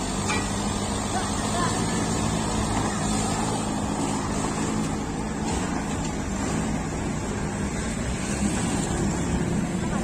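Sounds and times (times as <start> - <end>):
forklift engine idling: 0.0 - 10.0.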